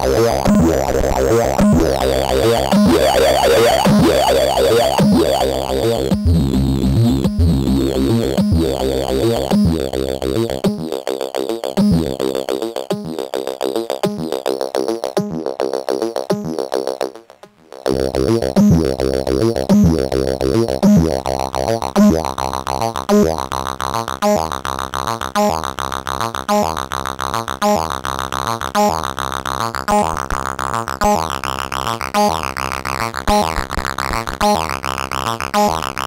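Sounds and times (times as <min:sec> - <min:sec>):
buzzy pulsing synthesizer sequence: 0:00.0 - 0:36.0.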